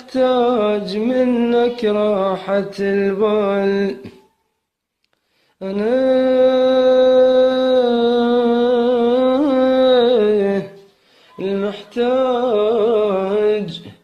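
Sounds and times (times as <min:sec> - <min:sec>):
man singing unaccompanied: 0:00.0 - 0:04.3, 0:05.6 - 0:14.0.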